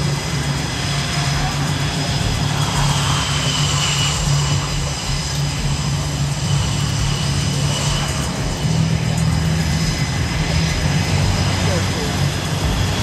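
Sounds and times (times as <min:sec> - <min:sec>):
aircraft engine running: 0:00.0 - 0:13.0.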